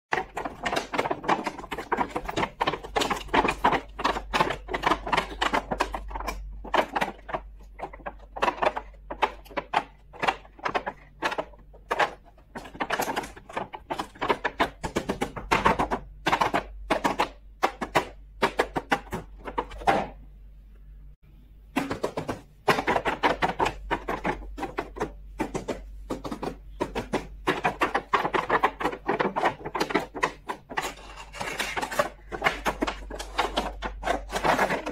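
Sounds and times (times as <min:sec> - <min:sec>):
plastic toy pieces clicking and rattling: 0:00.1 - 0:19.9, 0:21.8 - 0:34.9.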